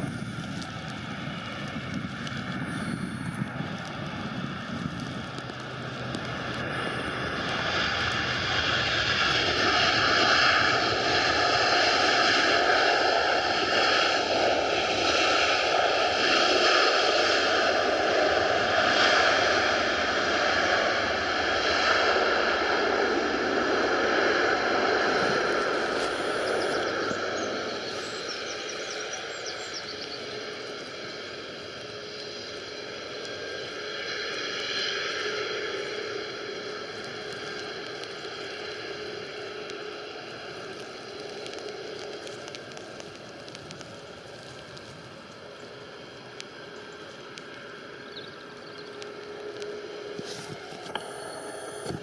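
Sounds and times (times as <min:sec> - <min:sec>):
jet engines roaring with whine: 0:00.0 - 0:52.0.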